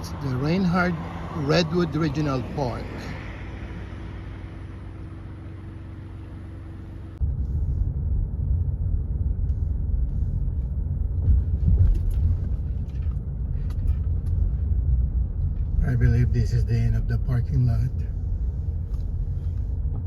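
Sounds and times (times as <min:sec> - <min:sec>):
car driving low hum: 0:00.0 - 0:20.0
uneven low rumble: 0:00.0 - 0:20.0.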